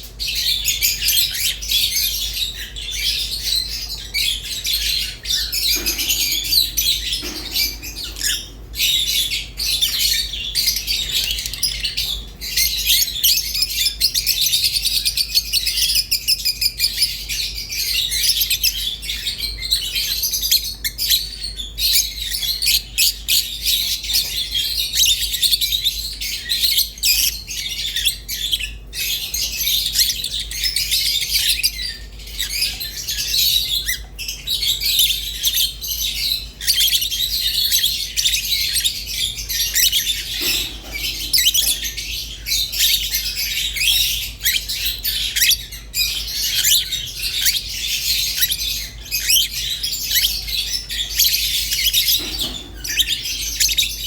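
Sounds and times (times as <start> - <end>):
lovebirds chirping: 0.1 - 54.0.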